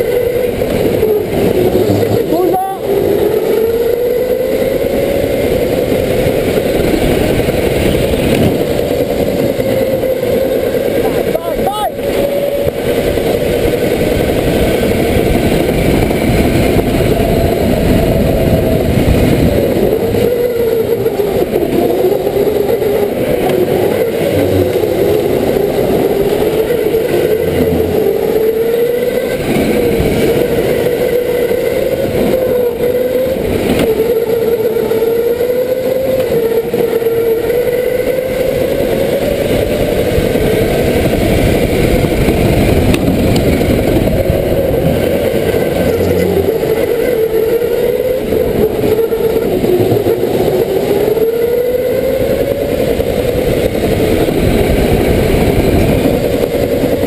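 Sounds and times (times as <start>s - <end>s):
go-kart motor revving: 0.0s - 57.0s
road and wind noise: 0.0s - 57.0s.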